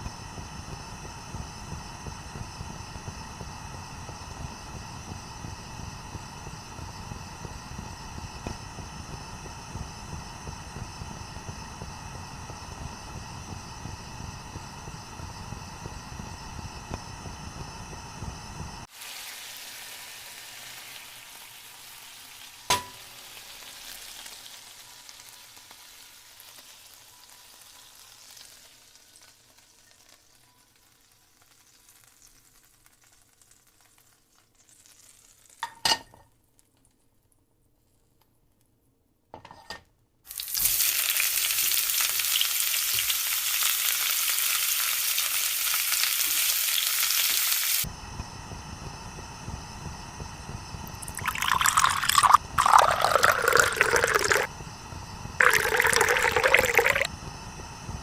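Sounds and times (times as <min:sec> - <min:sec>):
food sizzling in a pan: 0:00.0 - 0:36.2, 0:40.3 - 0:47.9, 0:50.2 - 0:54.5, 0:55.4 - 0:57.1.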